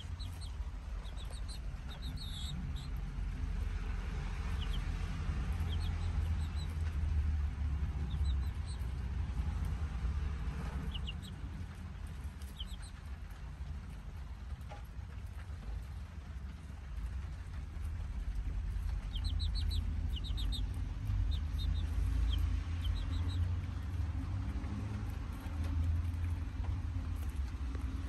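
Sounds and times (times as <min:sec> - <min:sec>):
chicks peeping: 0:00.0 - 0:16.2, 0:17.0 - 0:28.0
low rumble: 0:00.0 - 0:28.0.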